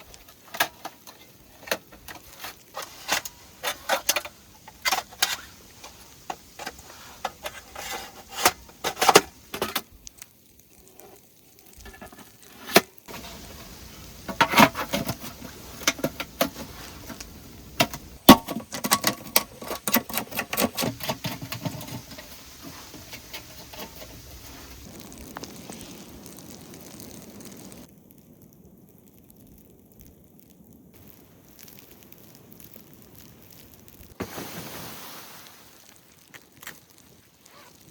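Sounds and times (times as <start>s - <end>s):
low hiss: 0.0s - 37.9s.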